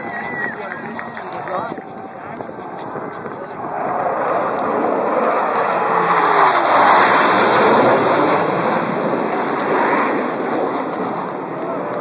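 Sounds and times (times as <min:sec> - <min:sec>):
jets passing overhead: 0:00.0 - 0:12.0.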